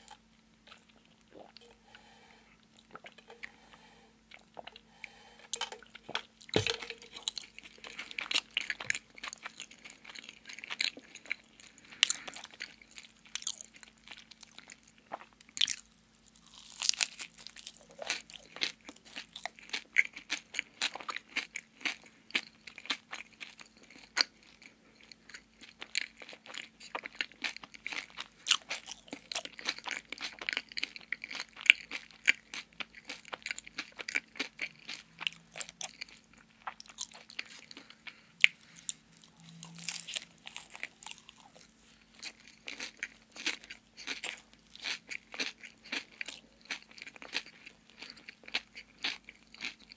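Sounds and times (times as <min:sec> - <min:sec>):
crunchy wet chewing: 0:00.0 - 0:49.9.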